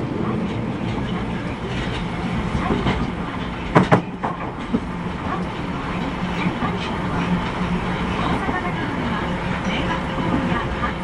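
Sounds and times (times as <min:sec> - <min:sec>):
subway train hum and rumble: 0:00.0 - 0:11.0.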